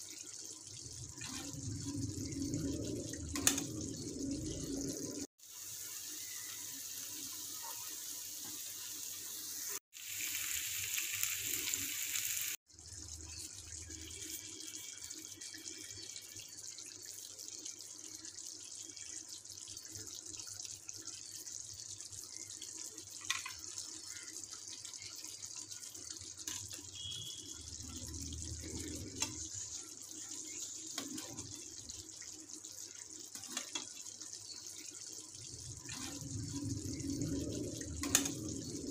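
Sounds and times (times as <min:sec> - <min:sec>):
chicken sizzling in a frying pan: 0:00.0 - 0:38.9.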